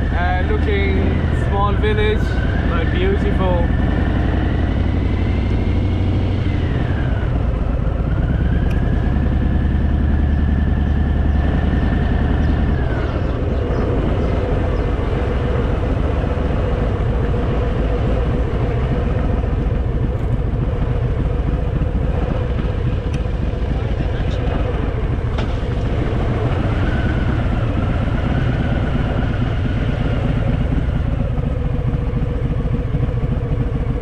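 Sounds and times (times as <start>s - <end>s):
motorcycle engine rumbling: 0.0s - 34.0s
road noise: 0.0s - 34.0s.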